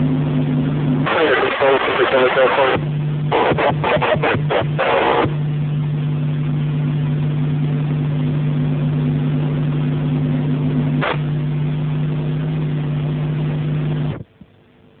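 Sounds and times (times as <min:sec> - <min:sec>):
helicopter cabin drone: 0:00.0 - 0:15.0.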